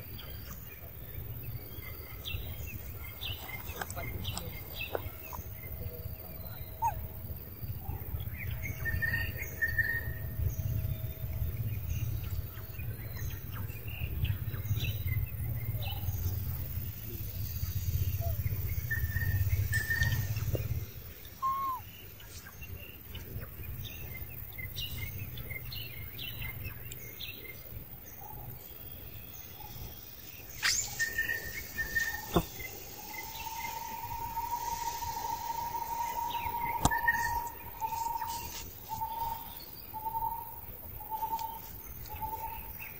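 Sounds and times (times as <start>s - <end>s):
birds chirping and calling: 0.0s - 22.4s, 29.7s - 42.9s.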